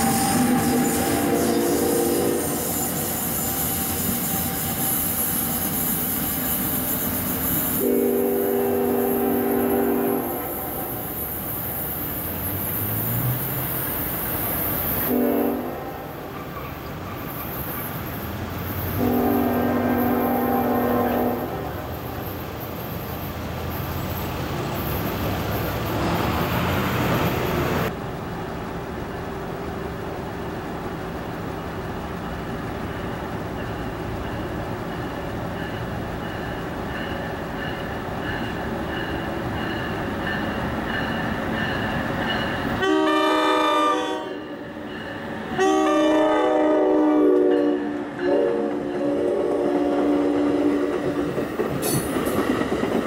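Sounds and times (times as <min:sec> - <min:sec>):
road traffic: 0:00.0 - 0:53.0
train wheels rolling on track: 0:00.0 - 0:53.0.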